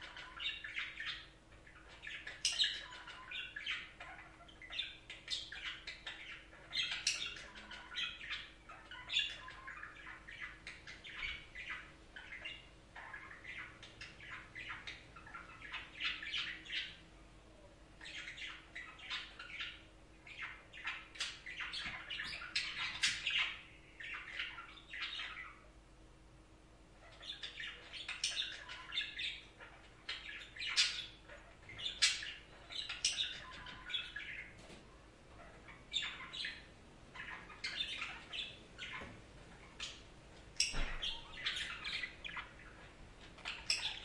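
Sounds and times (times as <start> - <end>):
budgerigars chattering: 0.0 - 17.0, 18.0 - 25.7, 27.0 - 34.6, 35.3 - 44.0.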